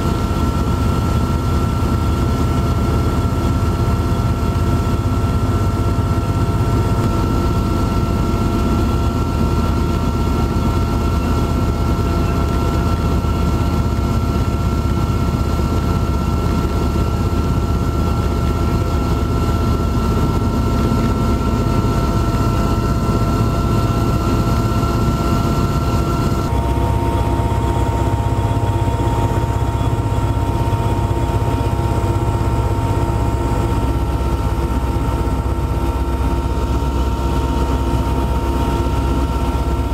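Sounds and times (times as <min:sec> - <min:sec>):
aircraft engine drone with whine: 0:00.0 - 0:39.9.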